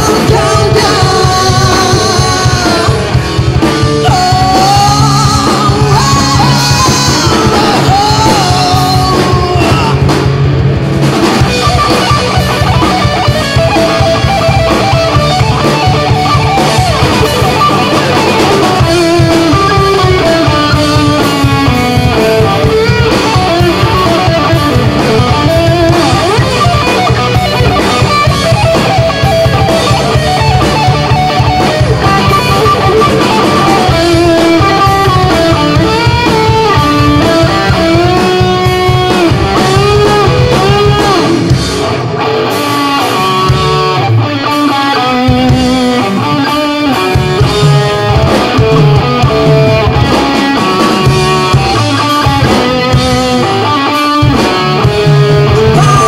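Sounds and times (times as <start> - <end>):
lead electric guitar melody: 0.0 - 56.0
rock band playing instrumental: 0.0 - 56.0.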